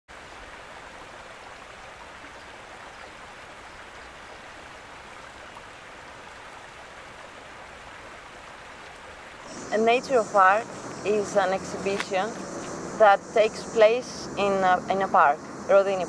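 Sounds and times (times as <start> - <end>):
stream water rushing: 0.1 - 16.0.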